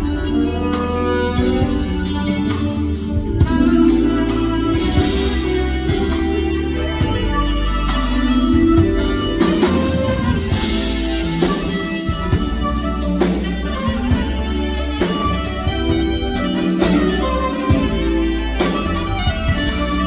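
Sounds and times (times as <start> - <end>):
live jazz band playing ballad: 0.0 - 20.0.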